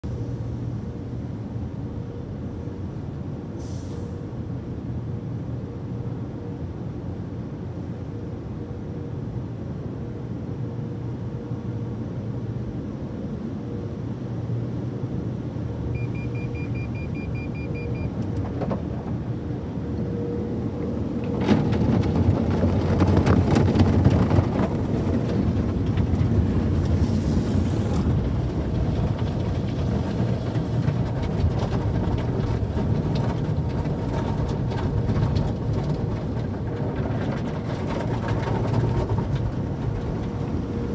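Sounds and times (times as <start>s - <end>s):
car wash machinery rumble: 0.0s - 3.6s, 4.2s - 40.9s.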